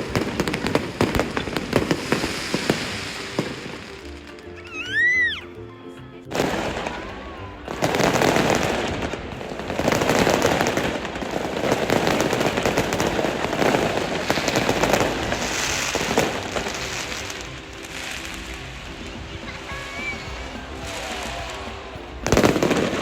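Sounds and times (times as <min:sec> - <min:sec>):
fireworks crackling and banging: 0:00.0 - 0:05.3, 0:06.3 - 0:23.0.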